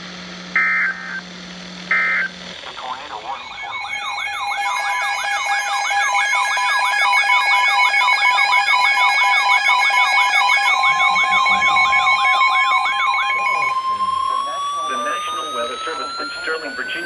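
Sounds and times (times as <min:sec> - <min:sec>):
steady warning tone: 0:00.4 - 0:17.0
pulsing beeps: 0:01.9 - 0:17.0
warbling siren tone: 0:01.9 - 0:17.0.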